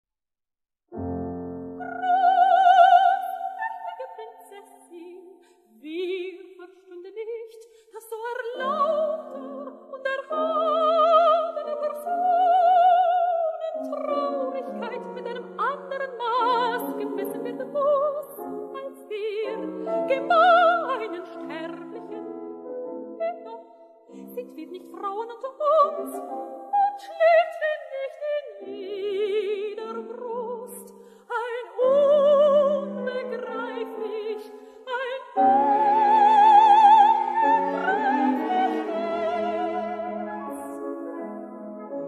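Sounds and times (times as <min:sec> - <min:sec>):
soprano singing opera: 0:01.8 - 0:22.3, 0:23.1 - 0:41.1.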